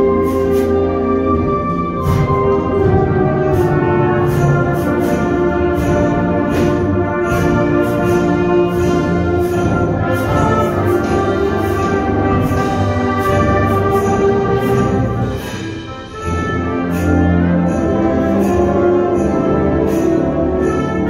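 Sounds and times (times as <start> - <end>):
brass sustained chords: 0.0 - 21.0
steady percussion beat: 0.0 - 21.0.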